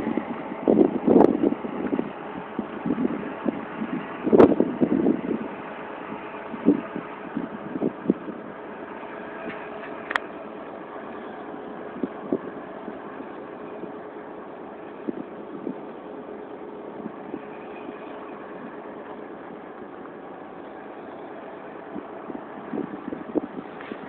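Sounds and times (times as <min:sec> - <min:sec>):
faint constant tone: 0:00.0 - 0:24.0
mechanical drone: 0:00.0 - 0:24.0.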